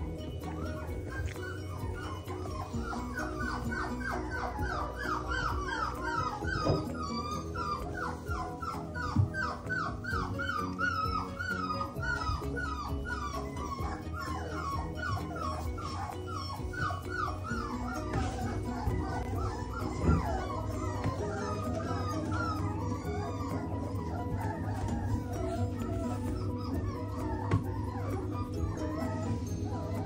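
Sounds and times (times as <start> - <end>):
background music: 0.0 - 30.0
puppies whimpering and squealing: 0.0 - 30.0.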